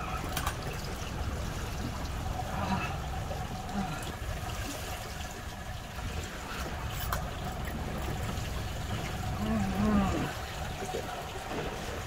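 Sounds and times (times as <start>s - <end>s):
low steady rumble: 0.0s - 12.0s
water sloshing against boat hull: 0.0s - 12.0s.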